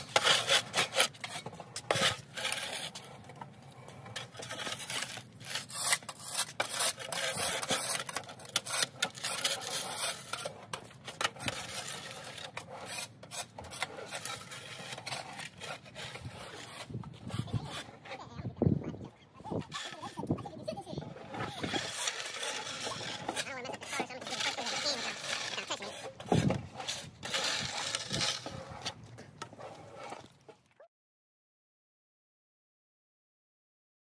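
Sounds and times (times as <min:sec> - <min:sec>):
shovel scraping on snowy concrete: 0:00.0 - 0:30.7.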